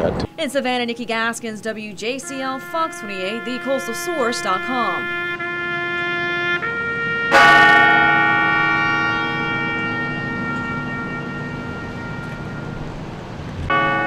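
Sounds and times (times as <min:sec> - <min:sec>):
steady held tone: 0:00.2 - 0:05.6, 0:06.5 - 0:14.0
church bell ringing: 0:00.3 - 0:14.0.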